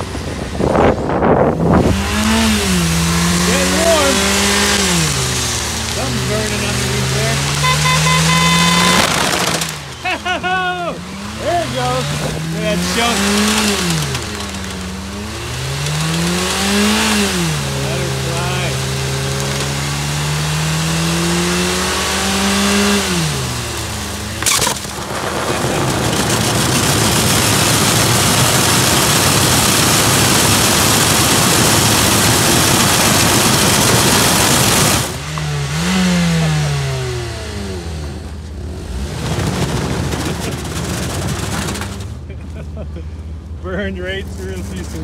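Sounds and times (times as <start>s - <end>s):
car engine revving hard: 0.0s - 42.3s.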